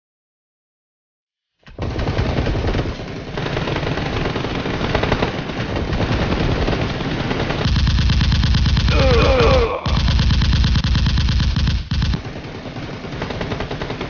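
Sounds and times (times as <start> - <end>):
automatic gunfire: 1.8 - 14.0.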